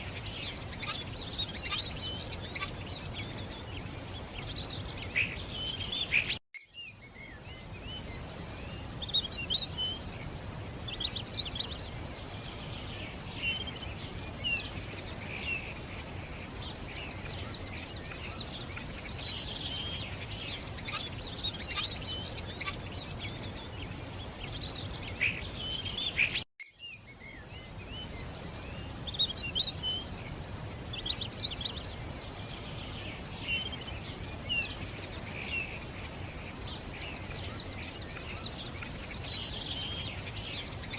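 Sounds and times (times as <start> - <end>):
background hiss: 0.0 - 40.9
songbirds chirping: 0.0 - 40.9.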